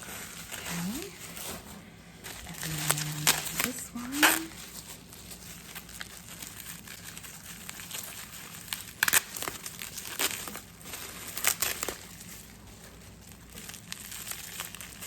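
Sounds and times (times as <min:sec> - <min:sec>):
wrapping crinkling and rustling: 0:00.0 - 0:15.0.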